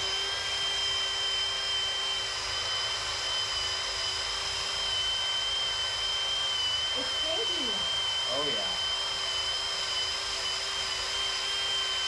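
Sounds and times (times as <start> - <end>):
power drill whining: 0.0 - 12.0.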